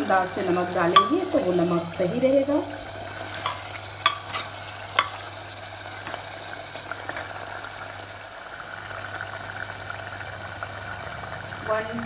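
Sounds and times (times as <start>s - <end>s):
food sizzling and bubbling in pot: 0.0s - 12.0s.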